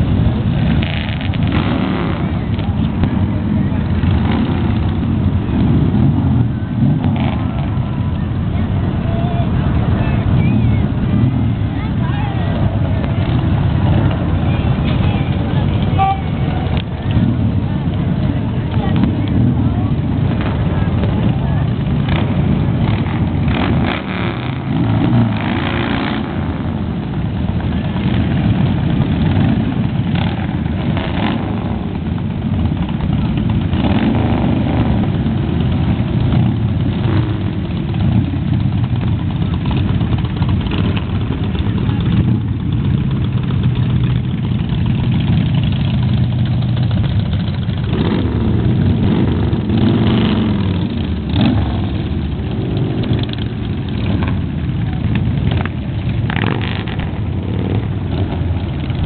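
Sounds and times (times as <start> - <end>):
motorcycle engines passing: 0.0 - 59.0.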